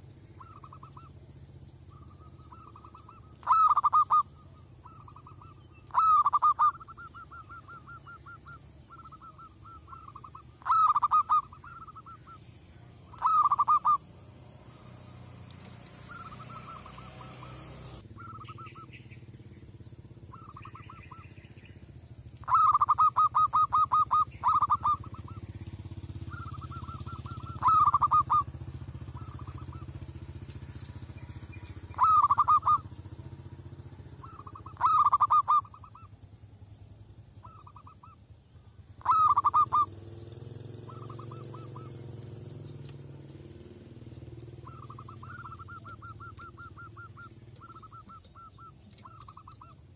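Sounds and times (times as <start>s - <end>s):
dove cooing: 0.0s - 19.2s, 20.2s - 36.2s, 37.4s - 38.2s, 39.0s - 49.9s.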